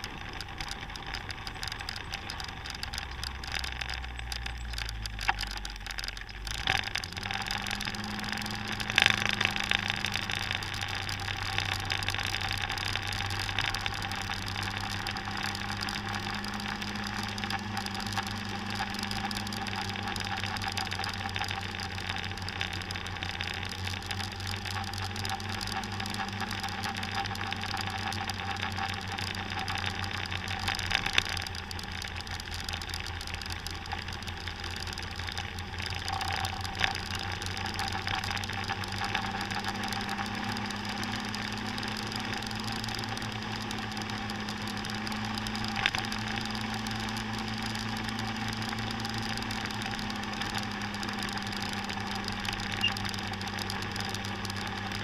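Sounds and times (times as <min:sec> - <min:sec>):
road and wind noise: 0:00.0 - 0:55.0
scooter engine running: 0:00.0 - 0:55.0.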